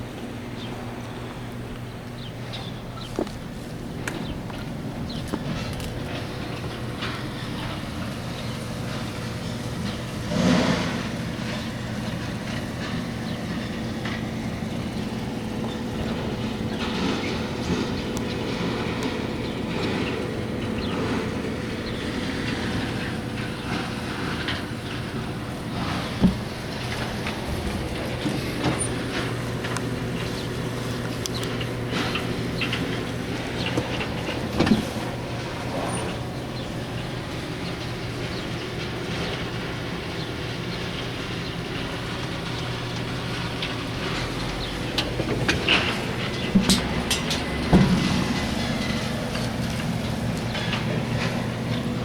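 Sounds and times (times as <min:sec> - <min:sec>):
heavy machinery running: 0:00.0 - 0:52.0.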